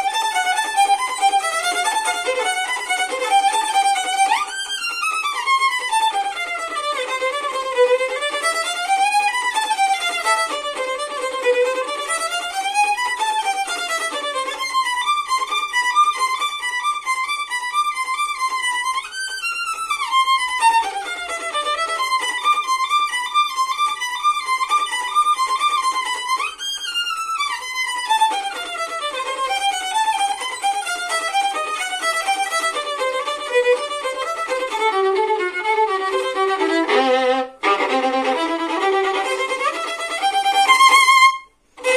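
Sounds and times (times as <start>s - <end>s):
solo violin playing fast notes: 0.0s - 41.9s.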